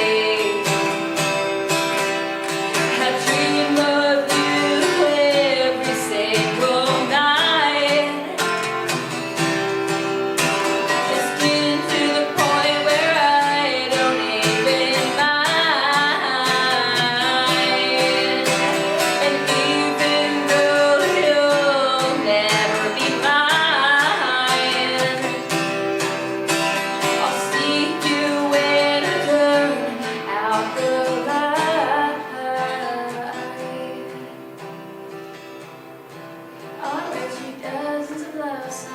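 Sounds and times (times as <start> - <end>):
woman singing: 0.0 - 1.5, 2.7 - 9.1, 10.6 - 26.2, 26.8 - 34.8, 36.7 - 38.9
strummed acoustic guitar: 0.0 - 38.9.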